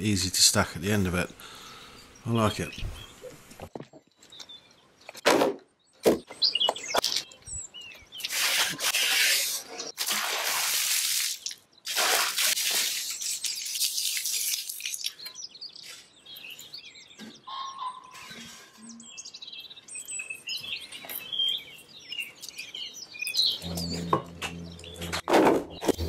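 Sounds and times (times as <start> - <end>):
birds chirping: 0.0 - 10.0, 12.7 - 26.0.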